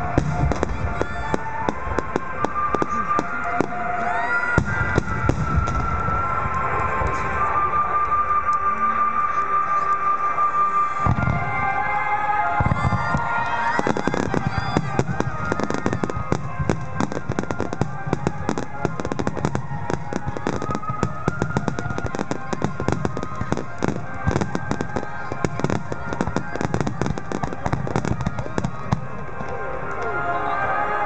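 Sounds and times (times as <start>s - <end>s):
fireworks bangs and crackles: 0.0s - 31.0s
music over loudspeakers: 0.0s - 31.0s.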